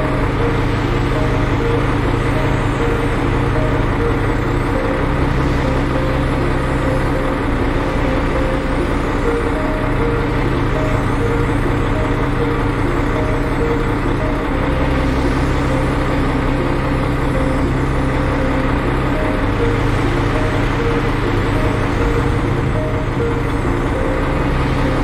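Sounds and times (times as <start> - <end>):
dump truck diesel engine: 0.0 - 25.0
excavator diesel engine: 0.0 - 25.0.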